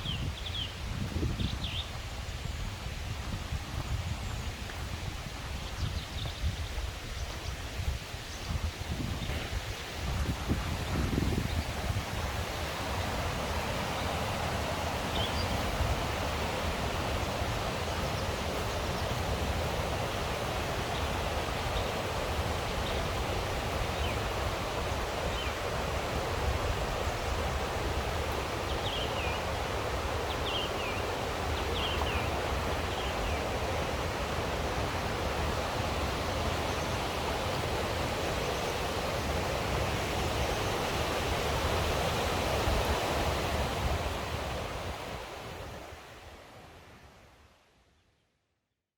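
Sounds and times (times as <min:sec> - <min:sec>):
stream rushing over rocks: 0:00.6 - 0:47.4.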